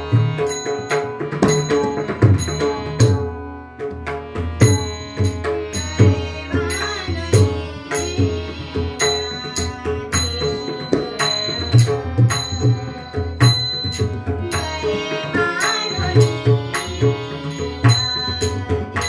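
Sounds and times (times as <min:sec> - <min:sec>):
harmonium melody: 0:00.0 - 0:19.0.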